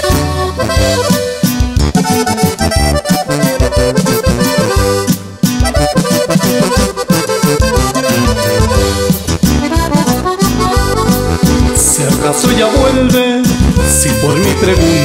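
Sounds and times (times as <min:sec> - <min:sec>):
band accompaniment: 0:00.0 - 0:15.0
button accordion melody: 0:00.0 - 0:15.0.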